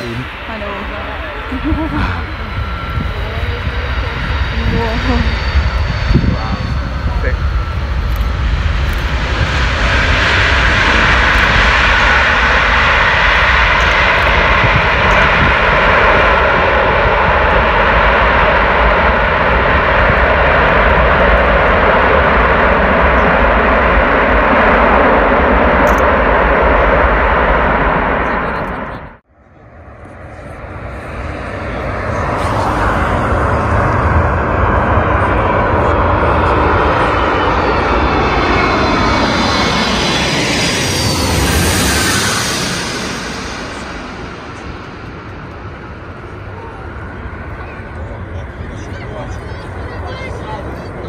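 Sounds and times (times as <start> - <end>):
jet engines running loud: 0.0 - 51.0.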